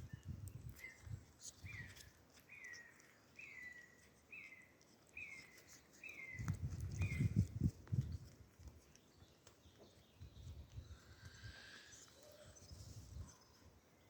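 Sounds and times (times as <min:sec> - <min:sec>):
rustling: 0:00.0 - 0:13.7.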